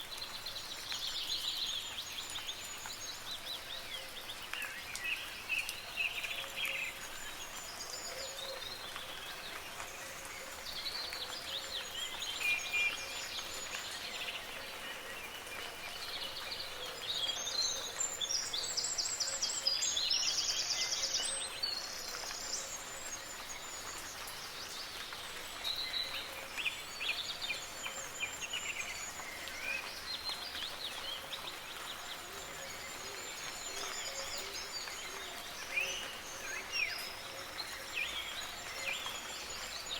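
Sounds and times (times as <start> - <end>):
soft rain hiss: 0.0 - 39.9
songbirds singing and calling: 0.0 - 39.9.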